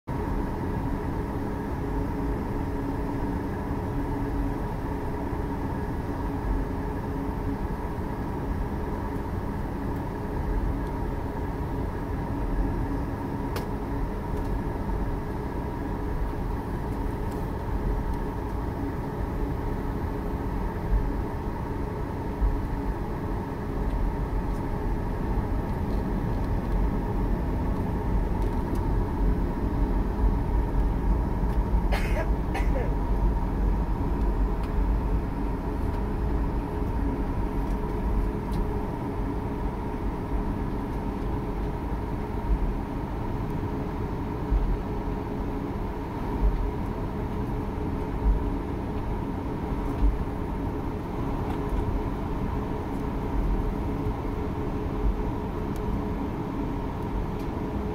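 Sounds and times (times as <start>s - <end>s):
jet engines whining and rumbling: 0.1s - 57.9s.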